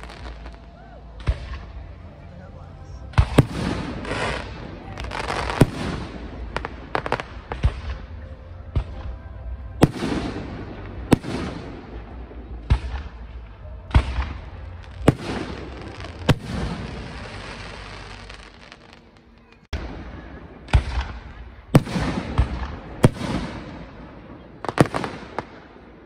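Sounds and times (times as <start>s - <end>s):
rolling echo: 0.0s - 26.0s.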